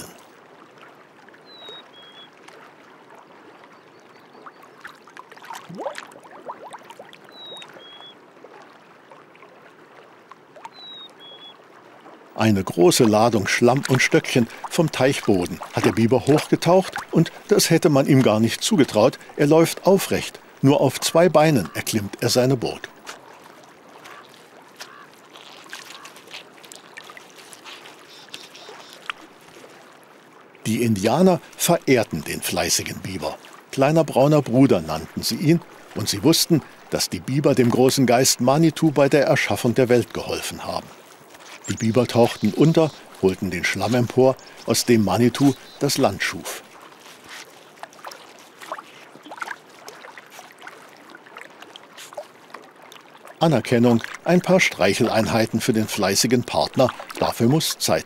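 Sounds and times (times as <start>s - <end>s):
water trickling: 0.0s - 58.0s
wet crackling of mud and twigs: 1.4s - 9.2s, 12.2s - 58.0s.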